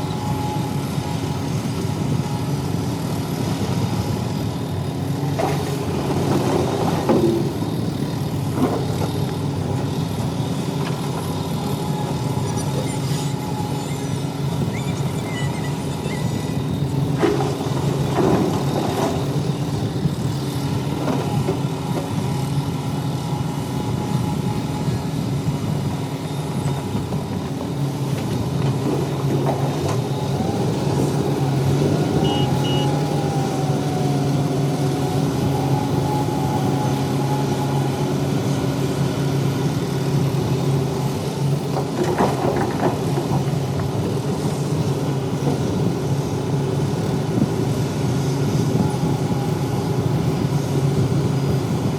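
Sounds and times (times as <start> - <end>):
wavering whine: 0.0 - 5.9, 6.8 - 41.6, 45.8 - 51.9
diesel machinery running: 0.0 - 51.9.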